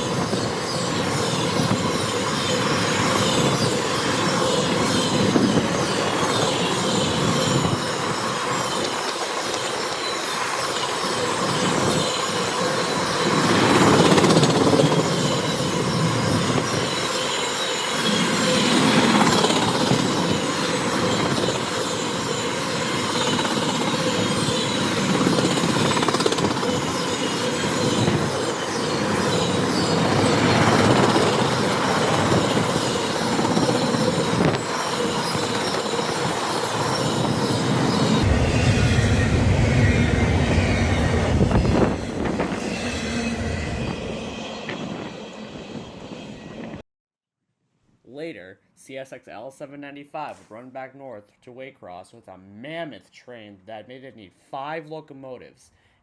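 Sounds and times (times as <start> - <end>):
freight train cars rolling past: 0.0 - 46.8.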